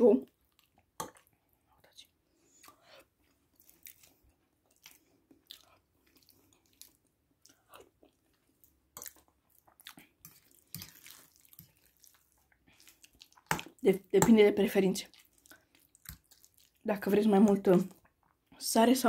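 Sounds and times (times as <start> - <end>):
chewing soft food: 0.3 - 13.9, 15.0 - 16.9.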